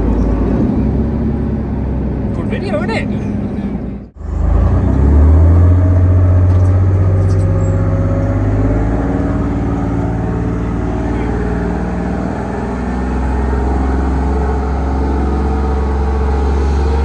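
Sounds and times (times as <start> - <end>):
tank engine running: 0.0 - 17.0.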